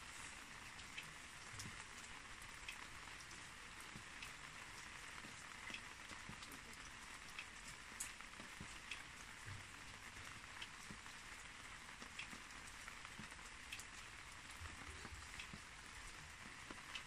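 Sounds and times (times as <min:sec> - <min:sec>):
light rain hissing: 0:00.0 - 0:17.0
drips ticking: 0:00.2 - 0:17.0.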